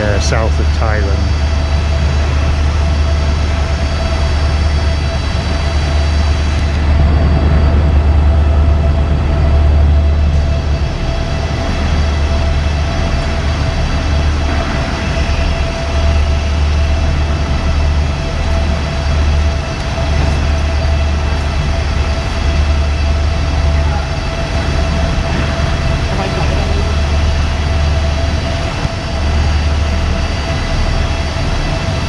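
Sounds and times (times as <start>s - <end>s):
constant hum: 0.0s - 32.0s
diesel train engine idling: 0.0s - 32.0s.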